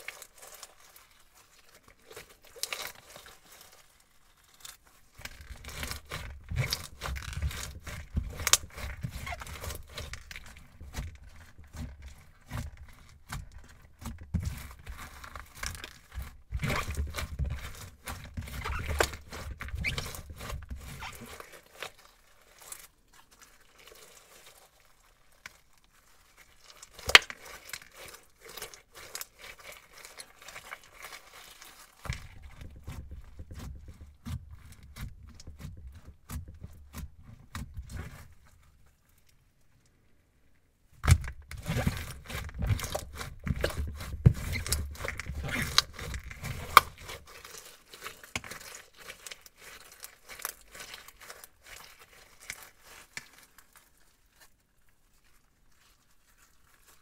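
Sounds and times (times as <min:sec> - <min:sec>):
crunchy slime crackling and squishing: 0:00.0 - 0:57.0.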